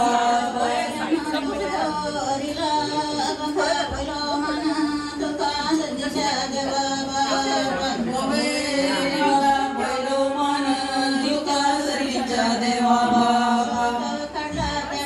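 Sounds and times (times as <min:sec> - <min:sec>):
group of people singing: 0:00.0 - 0:15.0.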